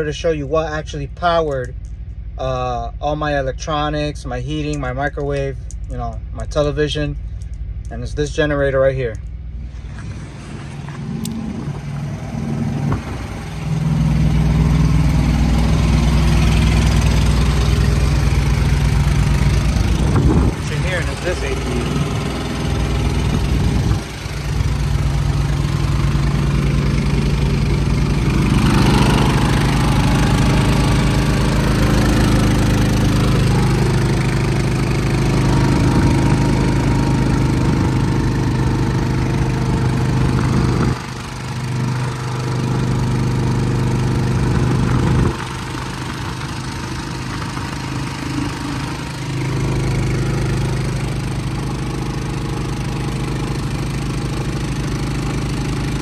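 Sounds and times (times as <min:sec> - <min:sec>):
diesel engine running: 0:00.0 - 0:56.0
generator running: 0:00.0 - 0:56.0
ventilation fan: 0:00.0 - 0:56.0.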